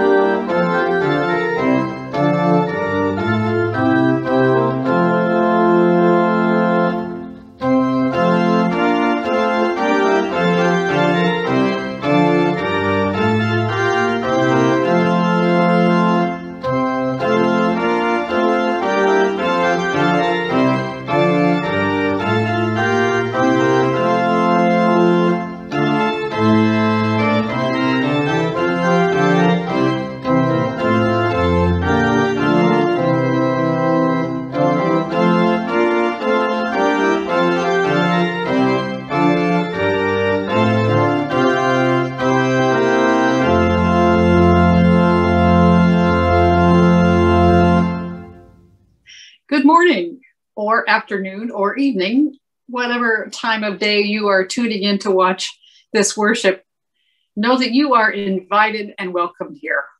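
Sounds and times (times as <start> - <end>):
organ playing held chords: 0.0 - 50.1.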